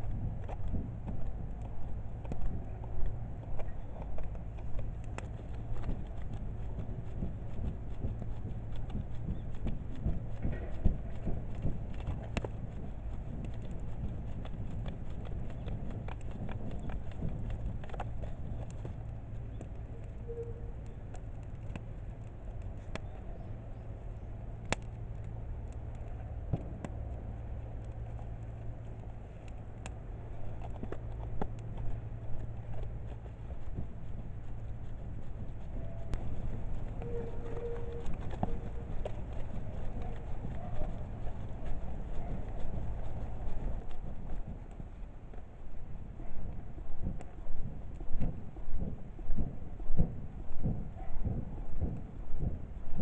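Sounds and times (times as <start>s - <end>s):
low rumble: 0.0s - 53.0s
wood fire crackling: 0.0s - 53.0s.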